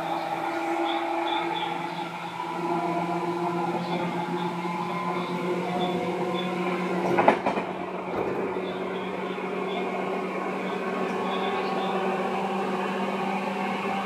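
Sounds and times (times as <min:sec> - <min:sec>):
electric train humming: 0:00.0 - 0:14.0.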